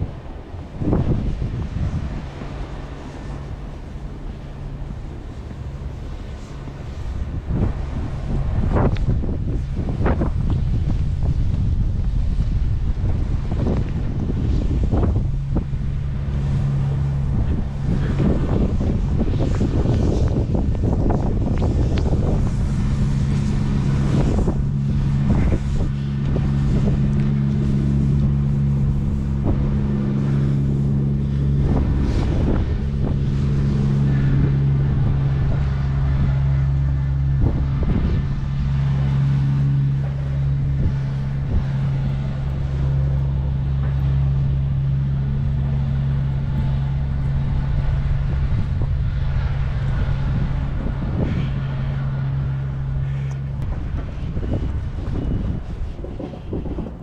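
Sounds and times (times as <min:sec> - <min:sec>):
car driving hum: 0:00.0 - 0:57.0
tyre and road noise: 0:00.0 - 0:57.0.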